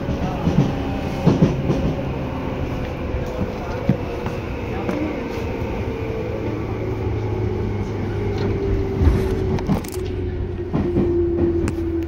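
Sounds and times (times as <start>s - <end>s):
electric train rumbling hum: 0.0s - 12.0s.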